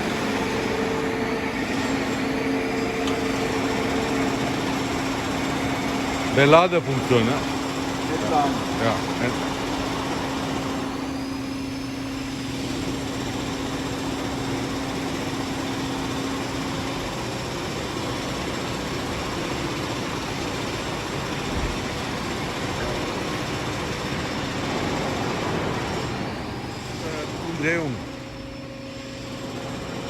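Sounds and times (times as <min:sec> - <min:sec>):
lathe running: 0:00.0 - 0:30.0
machine hum: 0:00.0 - 0:30.0.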